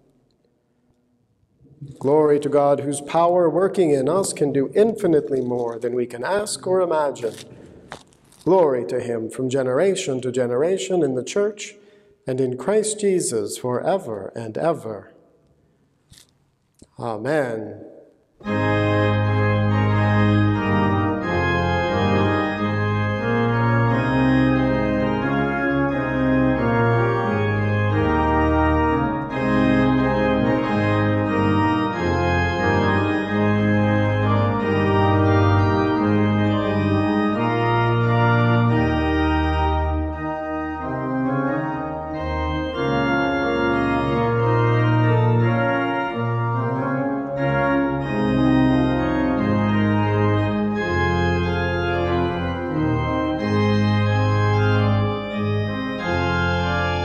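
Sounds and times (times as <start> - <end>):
organ playing sustained chords: 1.8 - 11.5, 17.1 - 57.0.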